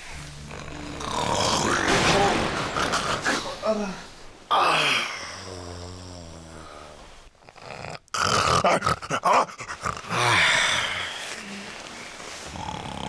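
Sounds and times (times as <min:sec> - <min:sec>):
person snoring loudly: 0:00.0 - 0:11.2, 0:12.5 - 0:13.0.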